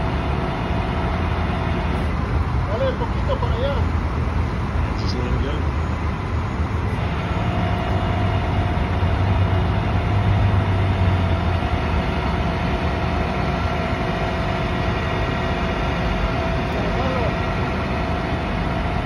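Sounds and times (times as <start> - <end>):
faint steady whine: 0.0 - 19.0
truck engine idling hum: 0.0 - 19.0.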